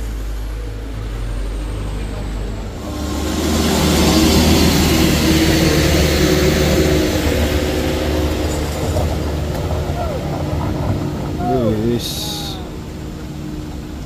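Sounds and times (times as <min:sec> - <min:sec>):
heavy vehicle engine running: 0:00.0 - 0:14.0.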